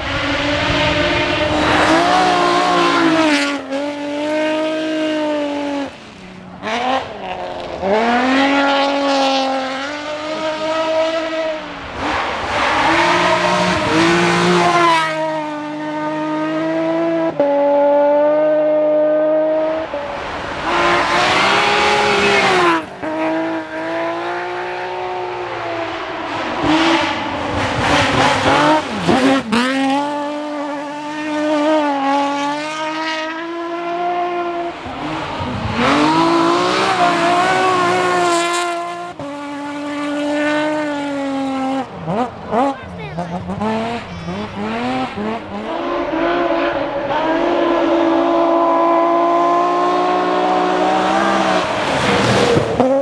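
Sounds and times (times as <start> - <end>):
rally car engines revving hard: 0.0 - 53.0.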